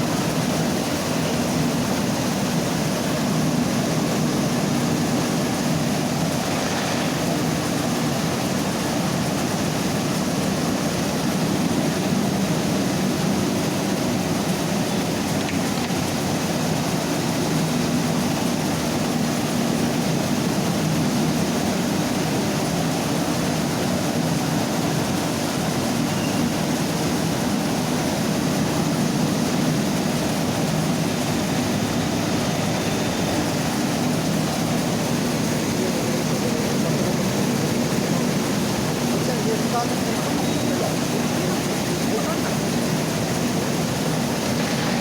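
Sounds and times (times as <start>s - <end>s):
rice milling machine running: 0.0s - 45.0s.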